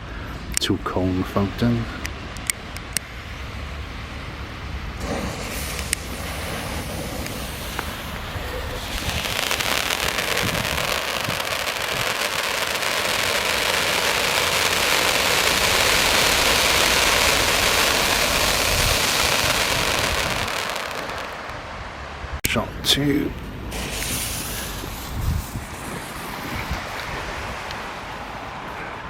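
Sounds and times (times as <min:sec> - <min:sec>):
firework fountain hissing: 0:02.2 - 0:22.2, 0:23.0 - 0:28.6.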